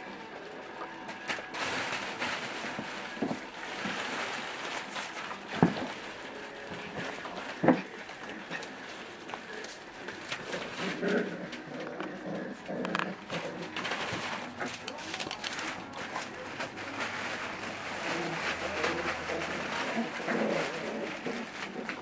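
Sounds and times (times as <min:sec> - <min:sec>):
rustling and bumping: 0:01.1 - 0:22.0.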